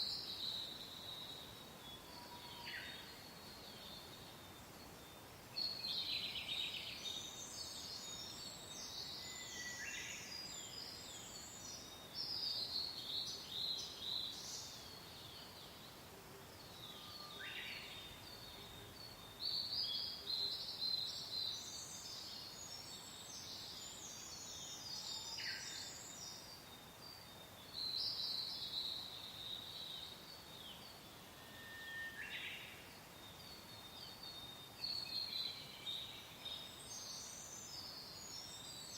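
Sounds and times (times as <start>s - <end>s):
soft wind hiss: 0.0s - 38.9s
songbirds chirping: 0.0s - 38.9s.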